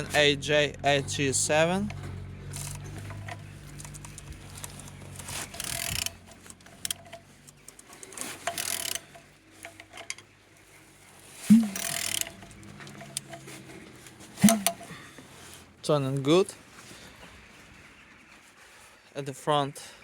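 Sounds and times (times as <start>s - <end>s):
engine mechanical clicking: 0.0s - 16.3s.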